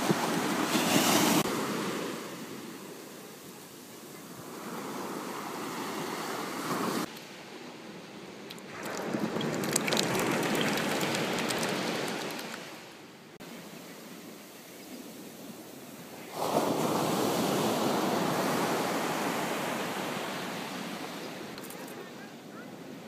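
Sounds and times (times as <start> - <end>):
ocean surf washing on shore: 0.0 - 7.6, 8.6 - 21.6.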